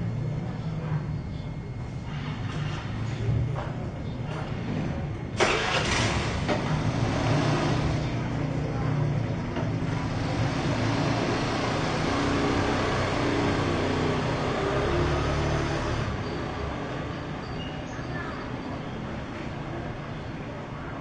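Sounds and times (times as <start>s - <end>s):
vehicle engine humming: 0.0s - 20.9s.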